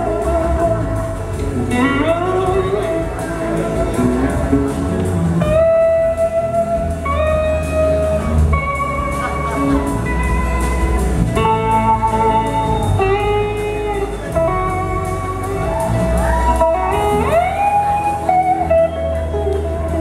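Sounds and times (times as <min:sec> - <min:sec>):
electric slide guitar lead: 0:00.0 - 0:20.0
second electric guitar: 0:00.0 - 0:20.0
steady low bass: 0:00.0 - 0:20.0.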